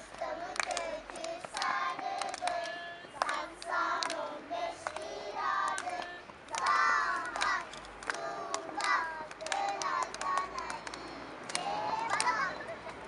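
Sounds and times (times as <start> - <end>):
hand claps: 0.0 - 13.0.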